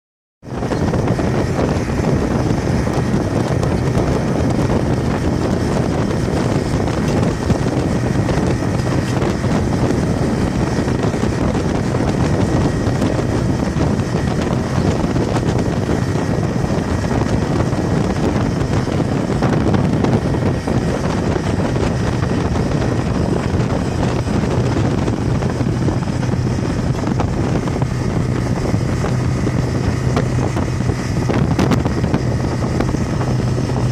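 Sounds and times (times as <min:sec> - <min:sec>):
outboard motor humming: 0:00.4 - 0:33.9
wind rushing over microphone: 0:00.4 - 0:33.9.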